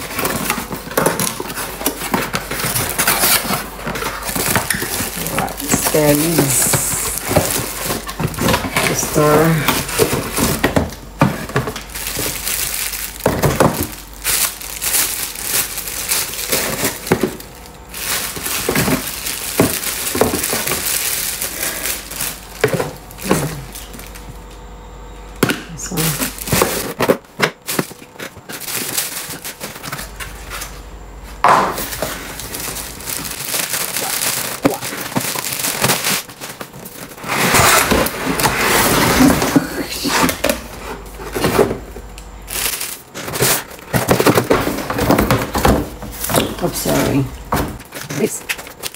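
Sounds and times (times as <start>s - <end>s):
plastic bags crinkling: 0.0s - 24.6s, 25.7s - 48.9s.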